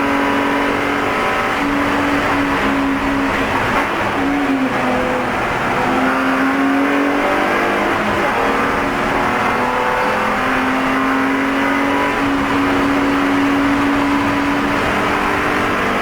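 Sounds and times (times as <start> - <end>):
race car engine shifting gears: 0.0 - 16.0.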